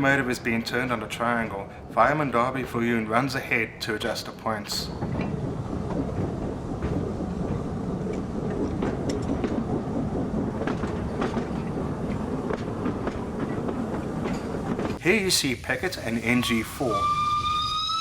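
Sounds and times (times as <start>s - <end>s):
steam locomotive rumbling: 0.0s - 18.0s
wheels clanking over rails: 0.1s - 15.0s.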